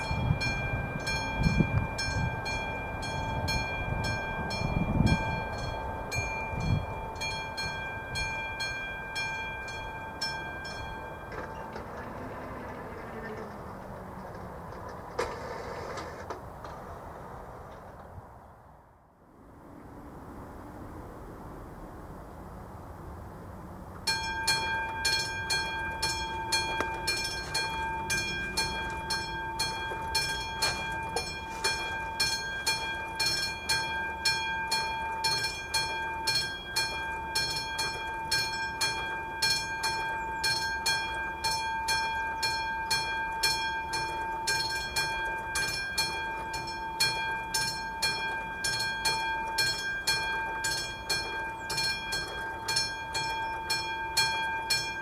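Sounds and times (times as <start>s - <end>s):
level crossing warning bell: 0.0s - 13.9s, 24.0s - 55.0s.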